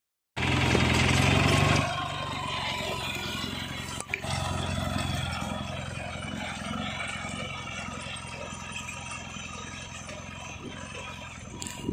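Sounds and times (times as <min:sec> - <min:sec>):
tractor engine under load: 0:00.4 - 0:11.9.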